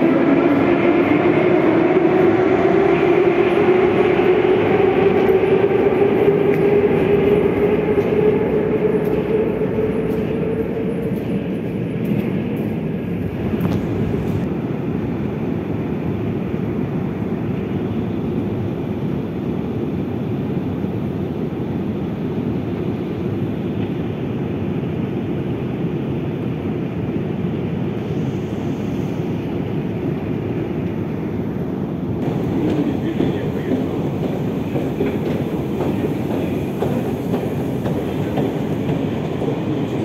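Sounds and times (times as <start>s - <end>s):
metro train running: 0.0s - 40.0s.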